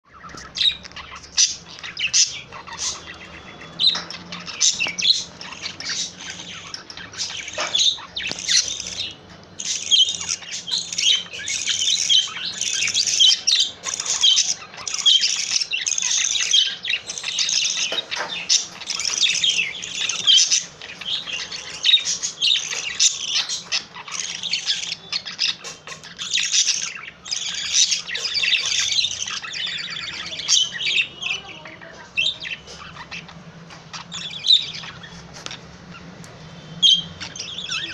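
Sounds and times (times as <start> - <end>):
budgerigar warbling chatter: 0.1 - 36.2, 36.8 - 37.9.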